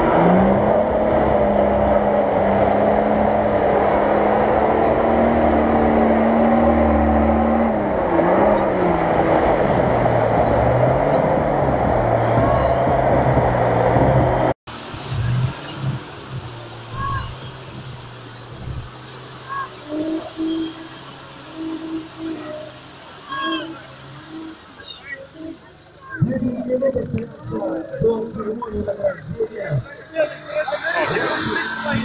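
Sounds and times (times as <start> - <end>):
engine revving in mud: 0.0 - 32.0.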